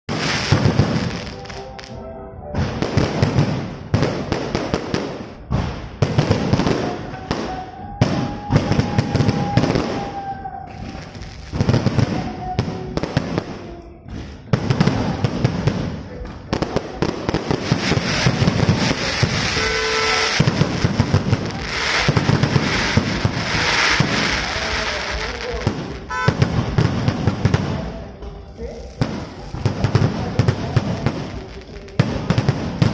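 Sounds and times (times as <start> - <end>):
fireworks crackling bangs: 0.1 - 2.0, 2.6 - 32.9.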